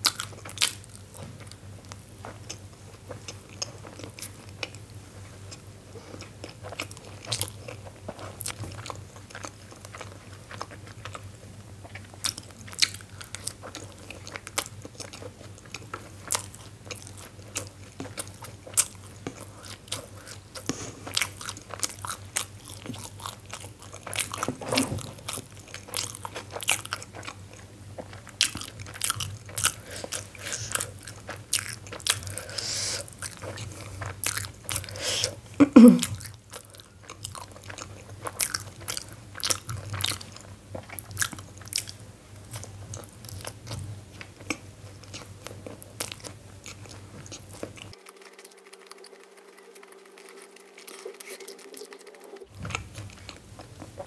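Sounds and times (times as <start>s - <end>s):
chewing dumplings: 0.0s - 54.0s.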